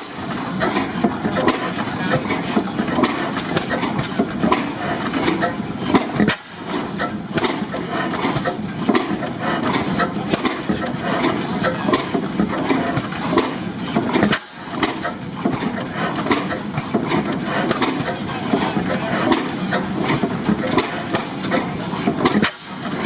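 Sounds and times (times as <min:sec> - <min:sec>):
stationary engines clattering: 0:00.0 - 0:23.0.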